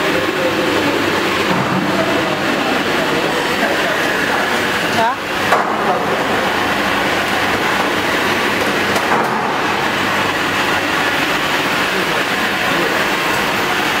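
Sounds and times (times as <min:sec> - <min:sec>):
vacuum unit running loudly: 0:00.0 - 0:14.0.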